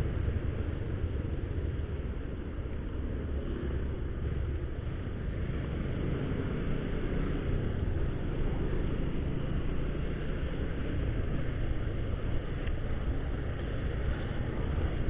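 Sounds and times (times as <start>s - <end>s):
motorcycle engine rumbling: 0.0s - 15.0s
road noise: 0.0s - 15.0s.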